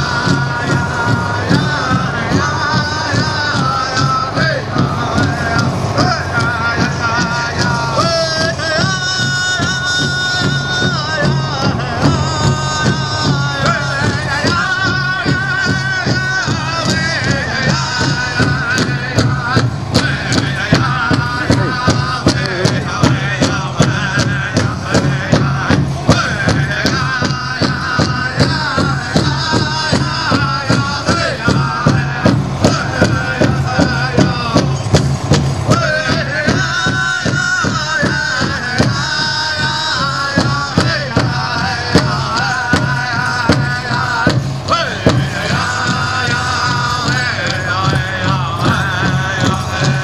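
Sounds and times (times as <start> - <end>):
high wavering group singing: 0.0 - 50.0
large drum beating: 0.0 - 50.0.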